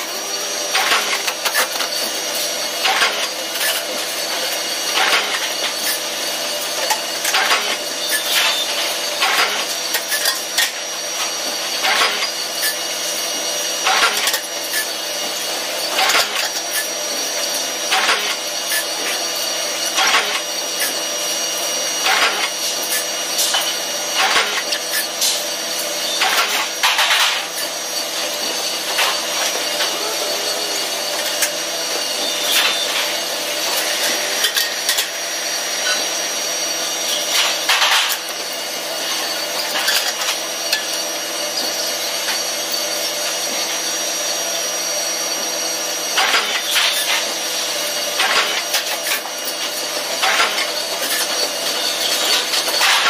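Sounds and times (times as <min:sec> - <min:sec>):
machinery hum: 0:00.0 - 0:53.0.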